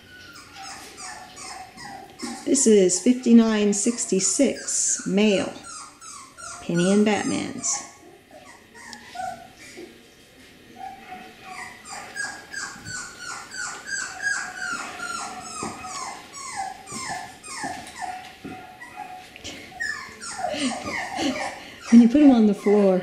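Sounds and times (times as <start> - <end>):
puppy whimpering: 0.0 - 9.9, 10.7 - 23.0.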